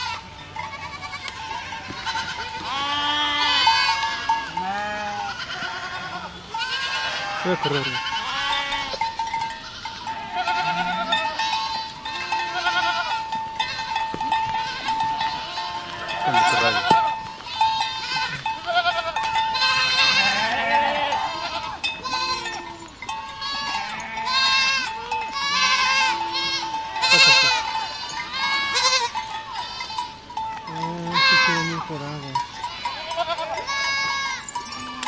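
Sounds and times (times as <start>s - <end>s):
goats bleating: 0.0s - 35.0s.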